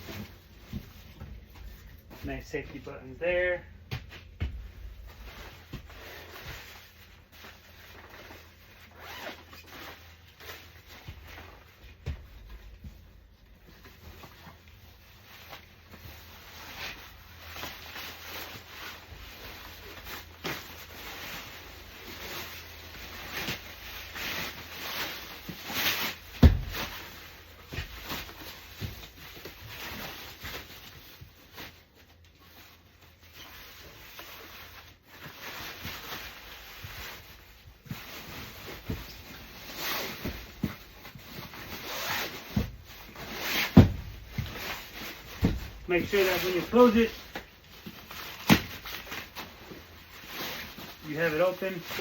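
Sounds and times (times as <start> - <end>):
fabric and plastic rustling: 0.0 - 52.0.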